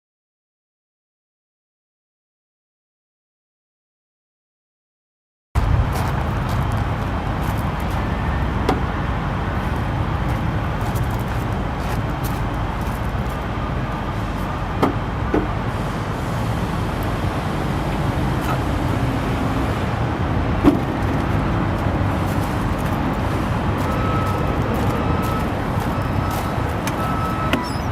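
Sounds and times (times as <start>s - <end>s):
diesel truck engine idling: 5.6s - 27.9s.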